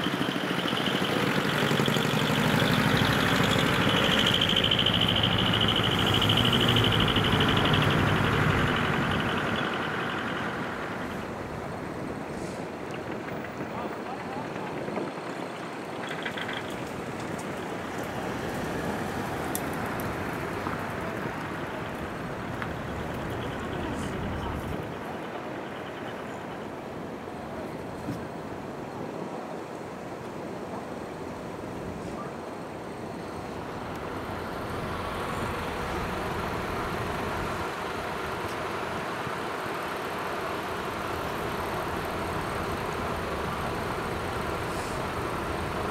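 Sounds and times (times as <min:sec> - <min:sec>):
truck diesel engine running: 0:00.0 - 0:28.0, 0:32.8 - 0:45.9
vehicles driving by: 0:00.0 - 0:45.9.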